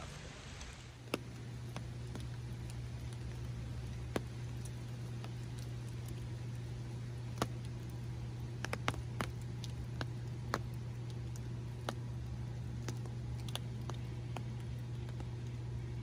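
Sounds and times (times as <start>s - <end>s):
raindrops tapping: 0.0s - 16.0s
steady low hum: 0.0s - 16.0s.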